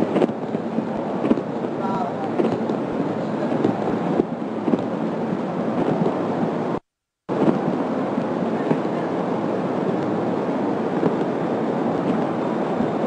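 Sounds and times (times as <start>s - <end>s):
heavy rain: 0.0s - 13.0s
strong wind: 0.0s - 13.0s.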